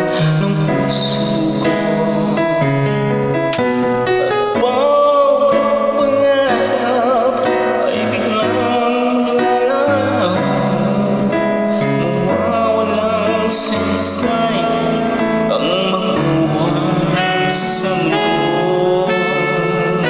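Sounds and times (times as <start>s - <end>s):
keyboards and band backing track: 0.0s - 20.0s
man singing a ballad: 0.0s - 20.0s.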